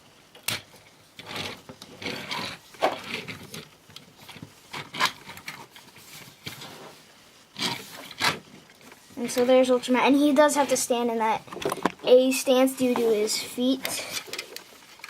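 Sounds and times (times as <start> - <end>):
plastic rubbing and rustling: 0.5 - 15.0.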